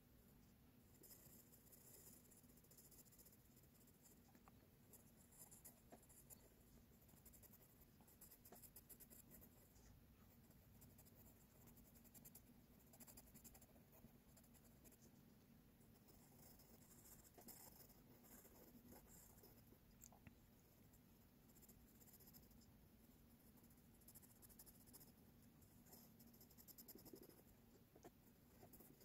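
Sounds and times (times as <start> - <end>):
pencil scratching on paper: 0.9 - 15.2, 15.9 - 19.7, 21.5 - 22.7, 23.4 - 29.0.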